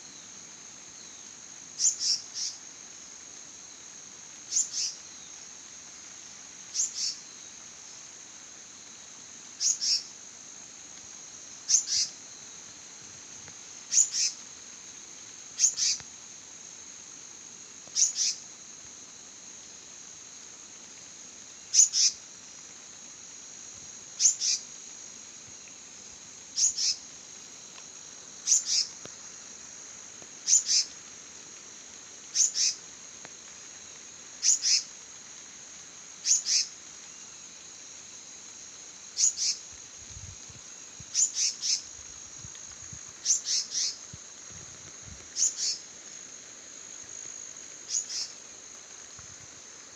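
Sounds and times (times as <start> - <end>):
high-pitched insect trill: 0.0 - 49.9.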